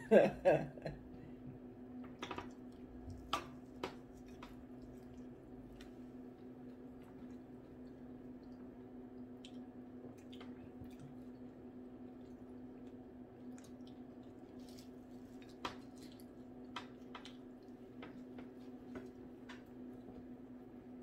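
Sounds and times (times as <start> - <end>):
steady low hum: 0.0 - 21.0
person chewing food: 2.4 - 20.4.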